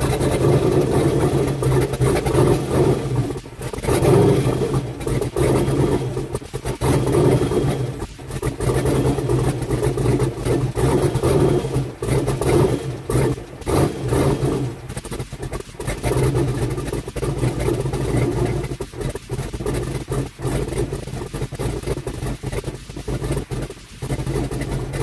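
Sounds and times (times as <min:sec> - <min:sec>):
pickup truck engine running: 0:00.0 - 0:25.0.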